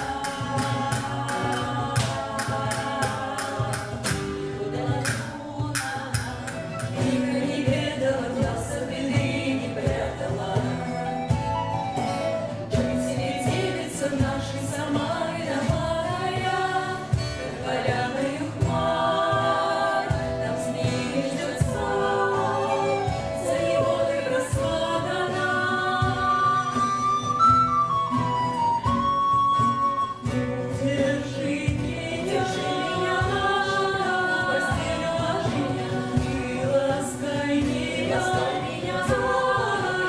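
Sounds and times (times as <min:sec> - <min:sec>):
person singing: 0:00.0 - 0:28.0, 0:30.1 - 0:40.0
folk-rock band playing: 0:00.0 - 0:40.0.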